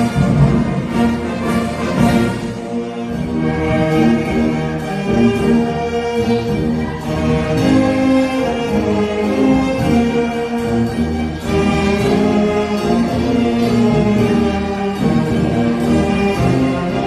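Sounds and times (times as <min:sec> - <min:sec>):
wind band playing a march: 0:00.0 - 0:17.0.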